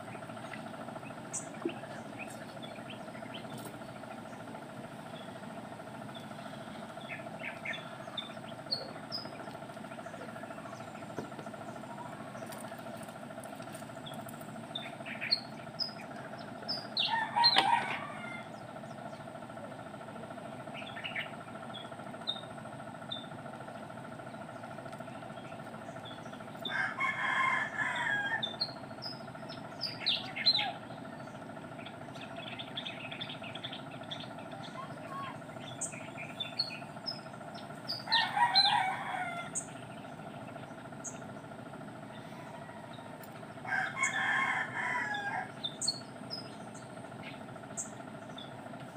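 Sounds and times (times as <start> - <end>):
birds chirping: 0.0 - 48.9
loud long bird calls: 0.0 - 48.9
steady background hum: 0.0 - 48.9.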